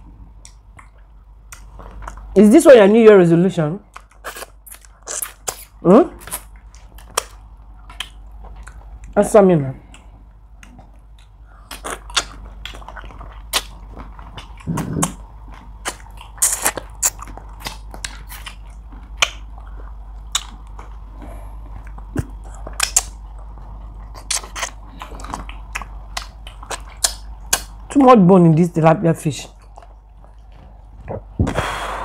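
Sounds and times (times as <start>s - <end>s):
wet chewing and lip smacks: 0.4s - 2.4s, 3.8s - 9.2s, 9.8s - 28.0s, 29.4s - 31.4s.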